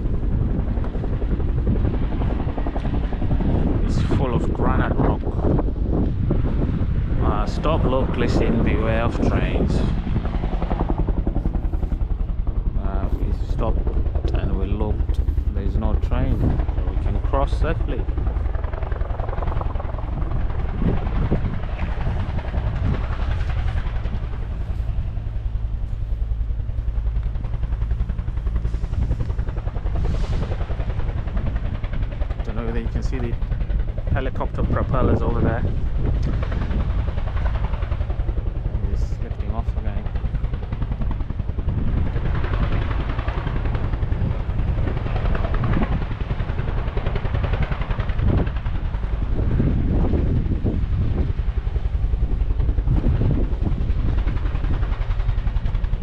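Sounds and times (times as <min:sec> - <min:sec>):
helicopter rotor blades beating: 0:00.0 - 0:56.0.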